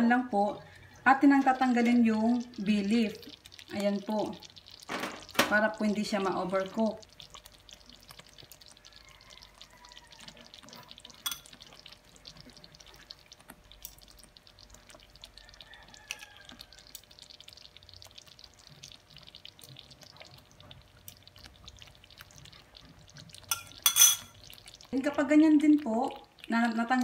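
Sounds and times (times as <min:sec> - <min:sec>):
sauce simmering and bubbling: 0:00.0 - 0:27.0.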